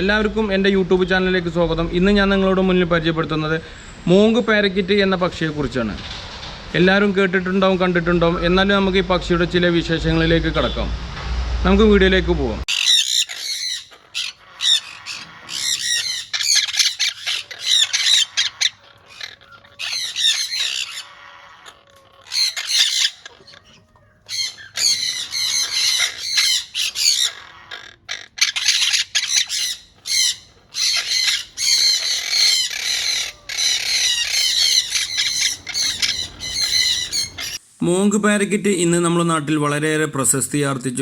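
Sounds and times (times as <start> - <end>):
parakeets squawking: 0.0 - 11.0, 11.7 - 37.6.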